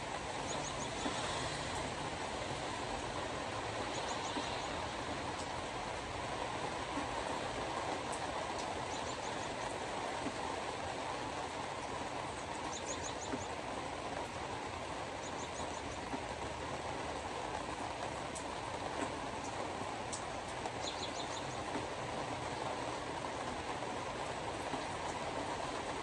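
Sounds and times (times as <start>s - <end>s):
road and tyre noise: 0.0s - 26.0s.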